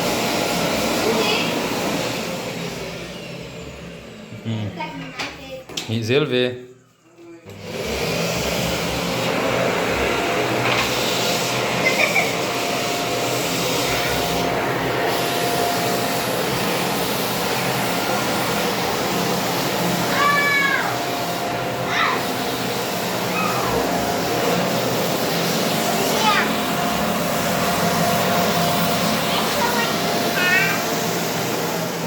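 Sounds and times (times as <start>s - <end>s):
vacuum cleaner whining: 0.0s - 32.0s.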